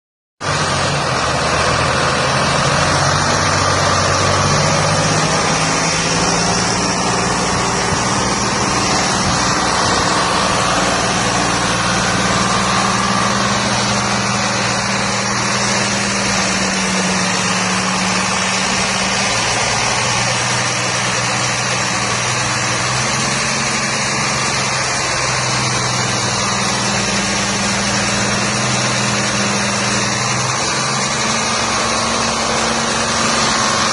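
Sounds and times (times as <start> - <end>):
diesel engine running: 0.4 - 33.9.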